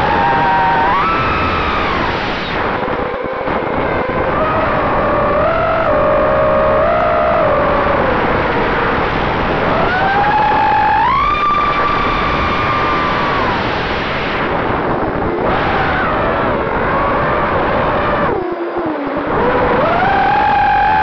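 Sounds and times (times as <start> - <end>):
rushing prop wash and wind: 0.0 - 6.8, 7.5 - 21.0
drone motors whining: 0.0 - 13.8, 14.4 - 21.0.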